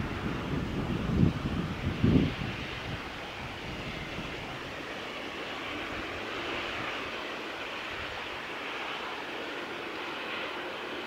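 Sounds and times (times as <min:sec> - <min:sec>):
rushing outdoor ambient noise: 0:00.0 - 0:11.0.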